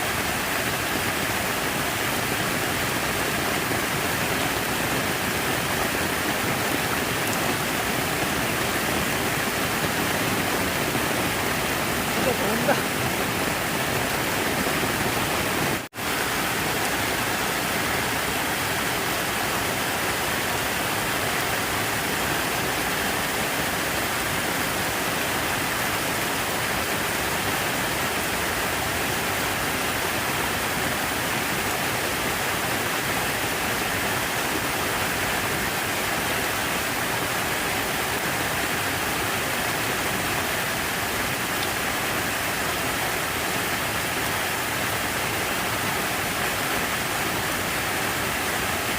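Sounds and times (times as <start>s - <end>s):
water falling and splashing: 0.0s - 48.9s.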